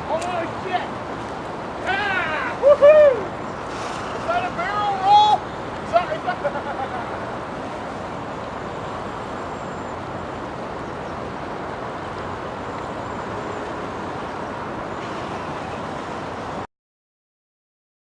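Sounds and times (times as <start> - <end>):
river water rushing: 0.0 - 16.6.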